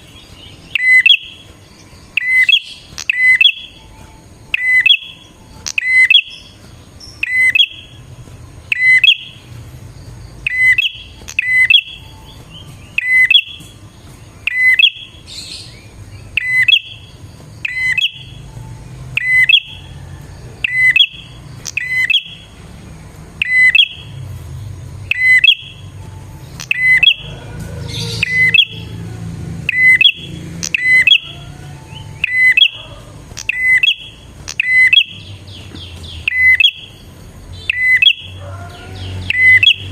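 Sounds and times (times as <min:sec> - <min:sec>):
bird chirping call: 0:00.0 - 0:39.9.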